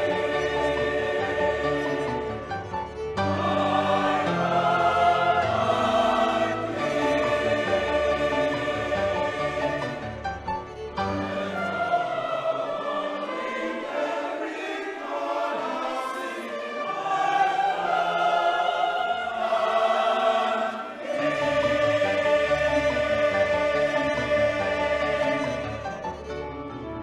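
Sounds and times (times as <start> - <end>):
choir singing held notes: 0.0 - 26.3.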